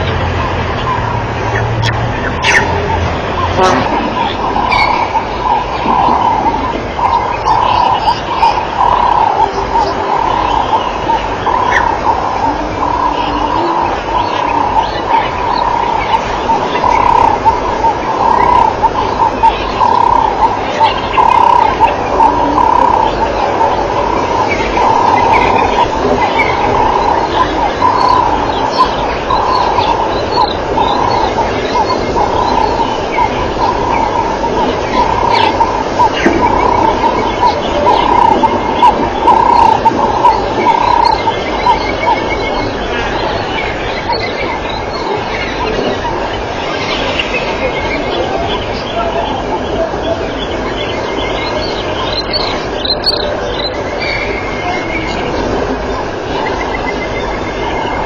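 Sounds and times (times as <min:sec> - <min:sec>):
steady hiss: 0:00.0 - 0:58.0
bird calling repeatedly: 0:01.6 - 0:58.0.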